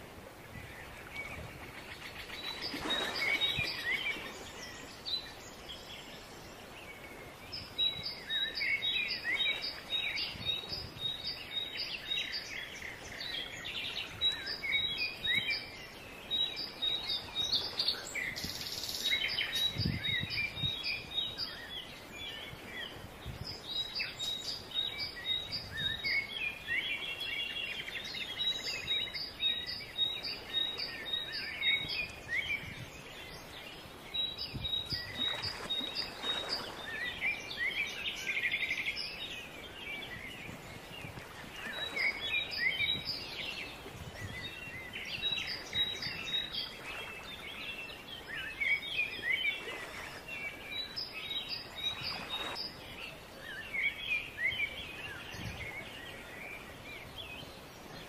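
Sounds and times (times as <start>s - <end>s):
calm sea water: 0.0s - 58.0s
songbirds chirping and singing: 0.8s - 58.0s.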